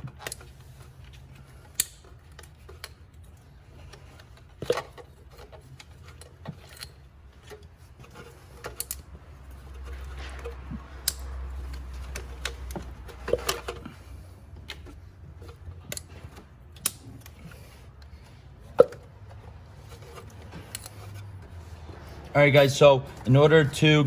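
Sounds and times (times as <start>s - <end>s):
hand tools and plastic parts knocking: 0.0s - 22.3s.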